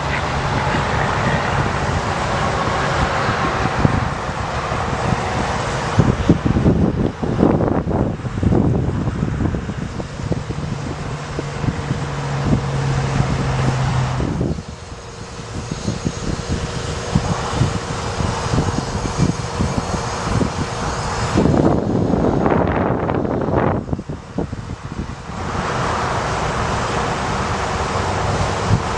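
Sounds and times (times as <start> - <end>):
low hum: 0.0 - 28.9
truck engine whining: 0.0 - 28.9
wind buffeting microphone: 0.0 - 28.9.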